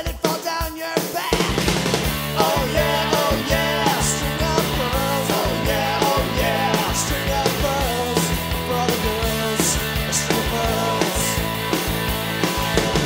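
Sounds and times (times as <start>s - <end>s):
person singing: 0.0s - 1.6s, 2.3s - 11.6s
guitar: 0.0s - 13.0s
steady drum beat: 0.0s - 13.0s
bass: 1.3s - 13.0s.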